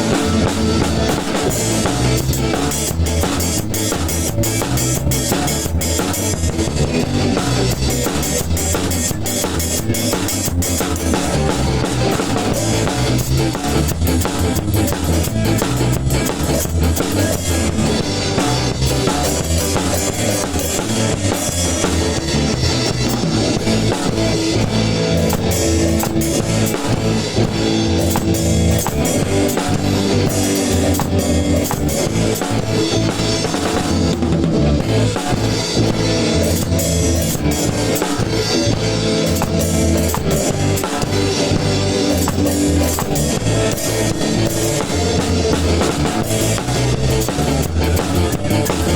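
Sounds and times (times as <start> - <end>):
drum beat with cymbals: 0.0 - 48.9
electric guitar: 0.0 - 48.9
live ska band playing: 0.0 - 48.9.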